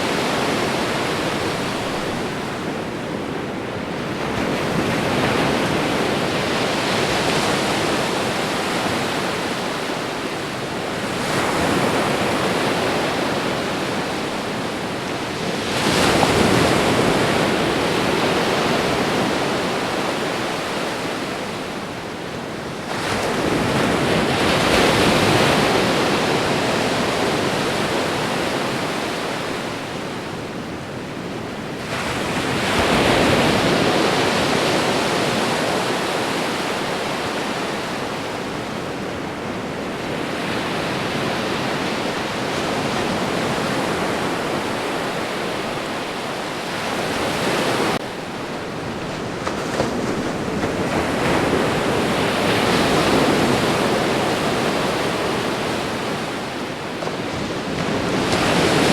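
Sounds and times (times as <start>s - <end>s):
ocean waves breaking: 0.0s - 58.9s.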